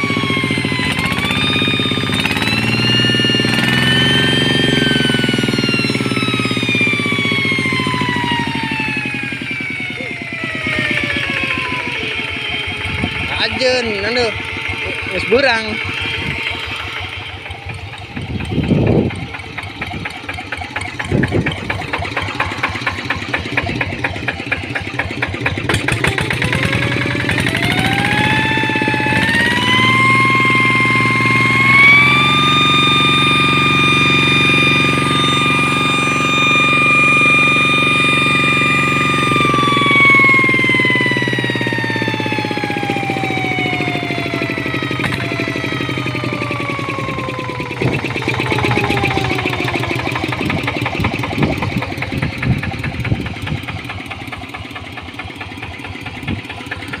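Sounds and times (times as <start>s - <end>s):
high-pitched whine: 0.0s - 57.0s
tractor engine running: 0.0s - 57.0s.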